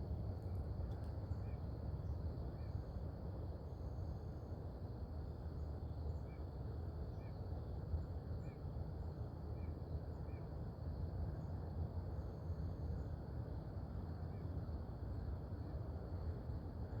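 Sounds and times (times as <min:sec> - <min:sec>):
faint high hum: 0:00.0 - 0:17.0.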